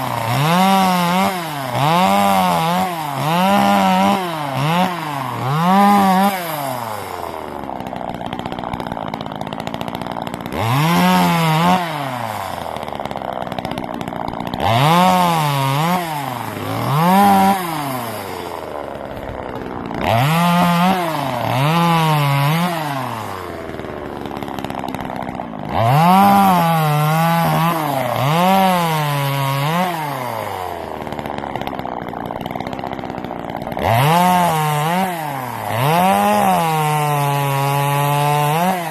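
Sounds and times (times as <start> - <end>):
chainsaw revving and cutting wood: 0.0 - 38.9.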